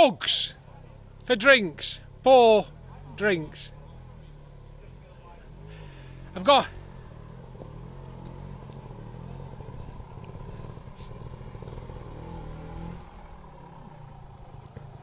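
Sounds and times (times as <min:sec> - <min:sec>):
motorcycle engine at low revs: 0:00.6 - 0:15.0.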